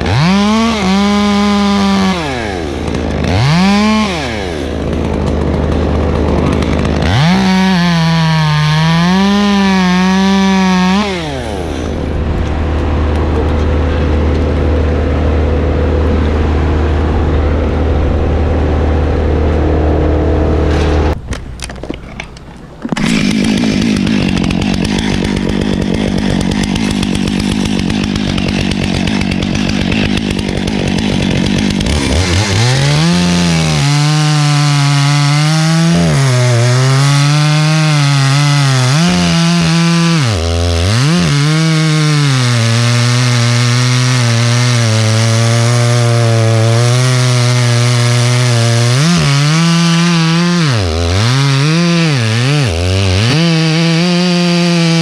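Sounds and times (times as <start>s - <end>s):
chainsaw cutting wood: 0.0s - 17.7s, 18.5s - 55.0s.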